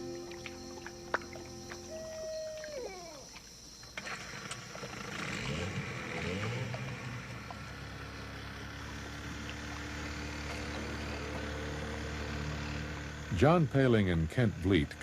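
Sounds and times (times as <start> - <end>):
outboard motor running: 0.0 - 2.6, 3.9 - 15.0.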